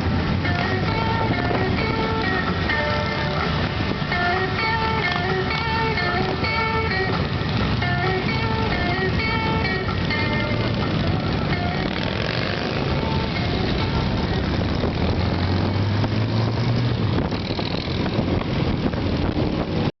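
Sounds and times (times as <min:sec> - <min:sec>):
motorcycle engines running: 0:00.0 - 0:19.9.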